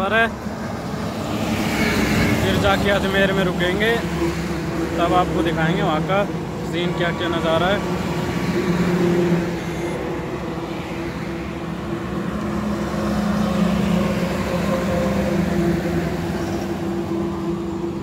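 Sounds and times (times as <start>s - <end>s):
trucks passing: 0.0s - 18.0s.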